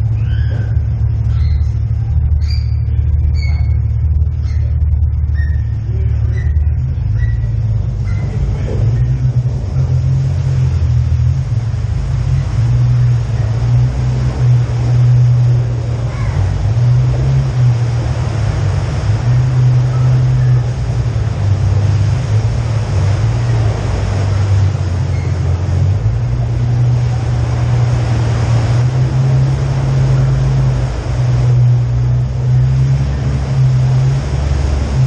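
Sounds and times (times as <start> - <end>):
car engine droning at low speed: 0.0 - 35.0
road noise: 0.0 - 35.0.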